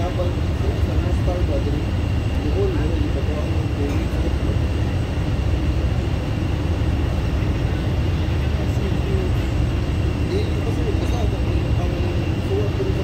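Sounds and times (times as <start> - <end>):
ferry engines rumbling: 0.0 - 13.0.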